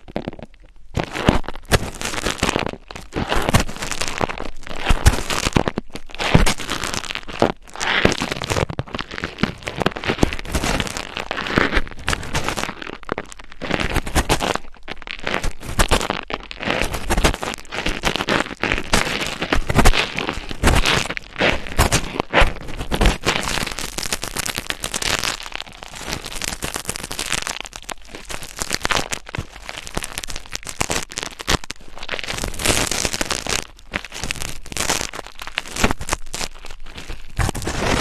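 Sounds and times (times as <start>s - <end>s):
scratching on microphone: 0.0s - 38.0s.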